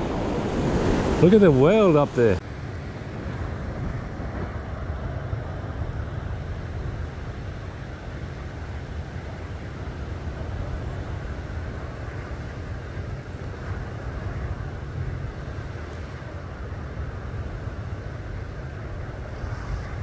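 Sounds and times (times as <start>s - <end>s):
ocean surf washing: 0.0s - 20.0s
wind rumble on microphone: 0.0s - 20.0s.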